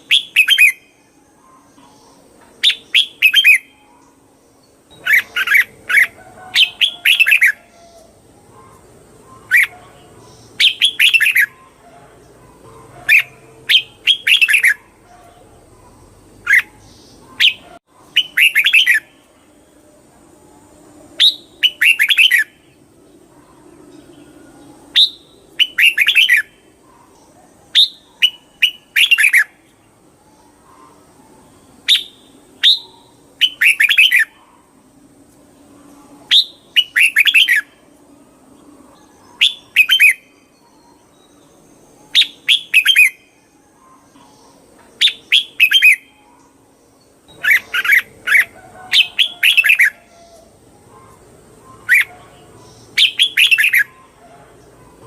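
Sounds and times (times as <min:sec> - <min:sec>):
bird singing warbled phrase: 0:00.0 - 0:34.8, 0:35.6 - 0:55.0.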